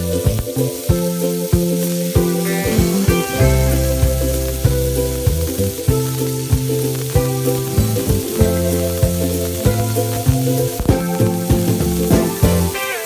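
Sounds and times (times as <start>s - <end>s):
background music with beat: 0.0s - 13.0s
food sizzling in a pan: 0.0s - 13.0s.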